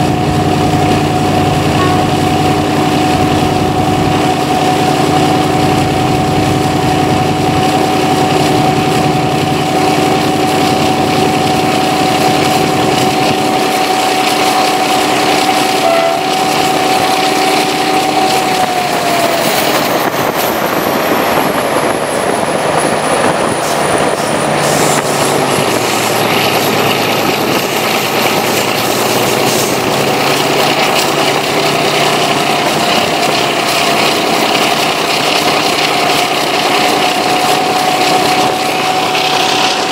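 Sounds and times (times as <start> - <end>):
diesel locomotive engine drone: 0.0 - 39.9
rushing noise: 0.0 - 39.9.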